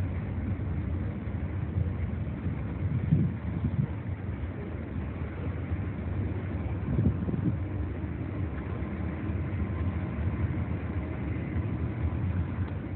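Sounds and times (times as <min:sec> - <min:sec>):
freight train rumbling past: 0:02.3 - 0:12.9.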